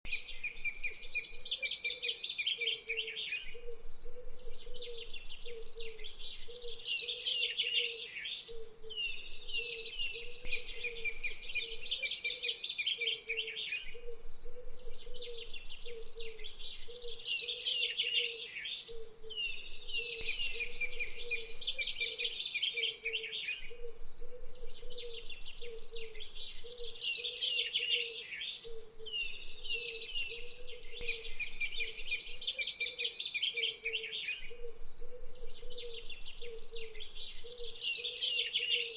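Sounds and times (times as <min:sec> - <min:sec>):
birds chirping and singing: 0:00.1 - 0:38.9.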